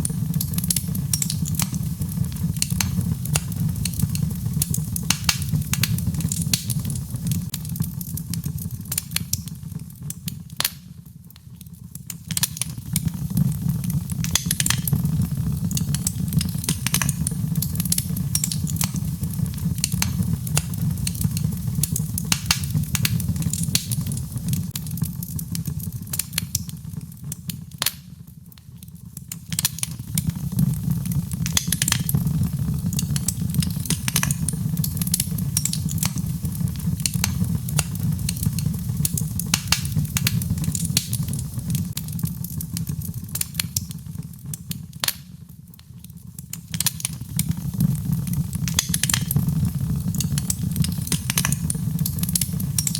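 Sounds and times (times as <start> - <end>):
logs crackling and popping: 0.0 - 52.9.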